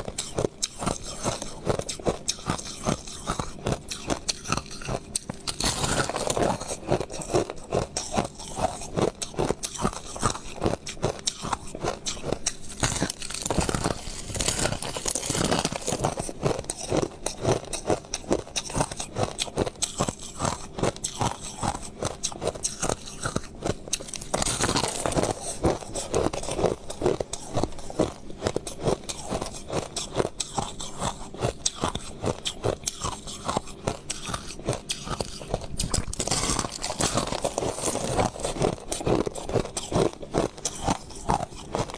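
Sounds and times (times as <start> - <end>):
crushed ice being chewed: 0.0 - 41.9.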